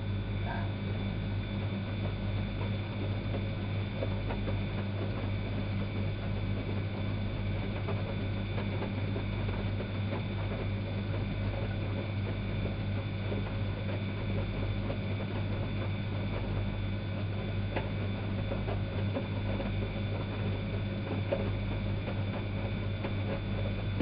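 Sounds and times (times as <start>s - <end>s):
washing machine running: 0.0s - 24.0s.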